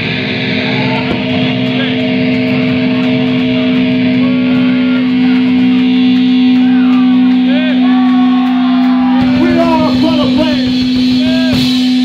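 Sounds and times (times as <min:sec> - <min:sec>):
electric guitar low note: 0:00.0 - 0:12.0
guitar feedback tones: 0:00.0 - 0:12.0.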